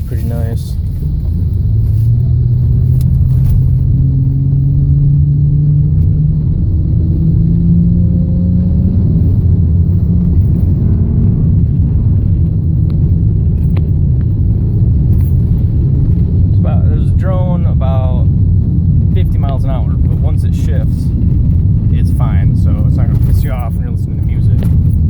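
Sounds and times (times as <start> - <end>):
road rumble: 0.0 - 25.0
truck engine accelerating: 0.0 - 25.0.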